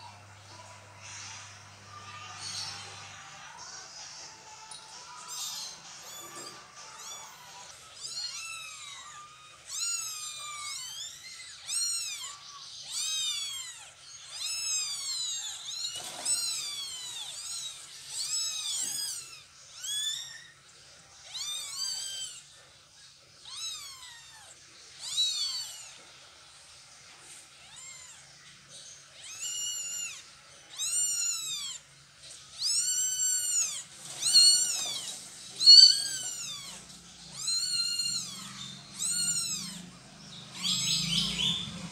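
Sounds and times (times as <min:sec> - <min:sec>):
kittens mewing: 0:00.0 - 0:20.6, 0:21.2 - 0:22.7, 0:23.3 - 0:26.2, 0:27.6 - 0:28.4, 0:29.1 - 0:41.9.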